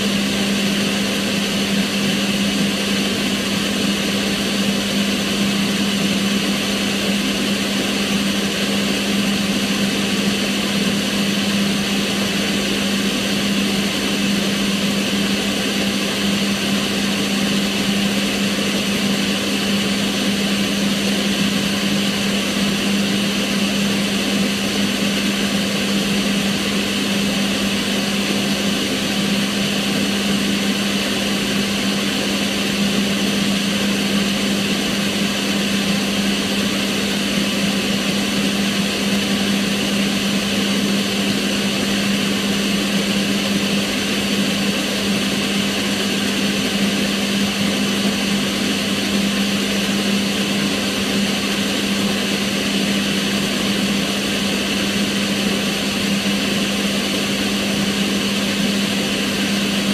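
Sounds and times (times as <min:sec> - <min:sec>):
extractor fan running: 0:00.0 - 0:59.9.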